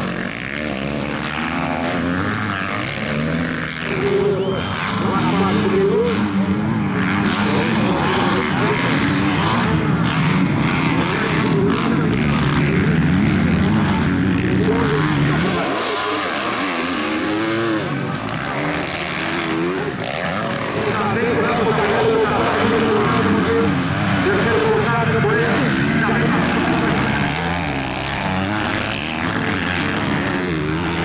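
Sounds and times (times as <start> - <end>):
motocross bike engines revving: 0.0 - 31.0.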